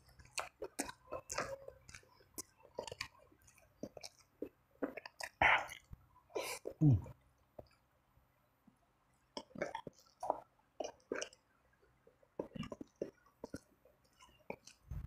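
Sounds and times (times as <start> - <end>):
chewing noodles: 0.0 - 6.9, 9.2 - 15.0.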